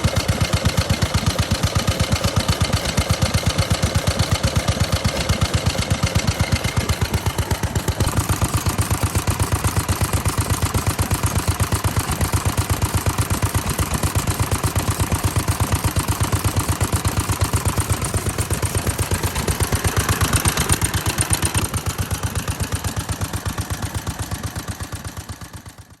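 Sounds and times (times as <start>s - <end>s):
stationary engine idling: 0.0s - 26.0s.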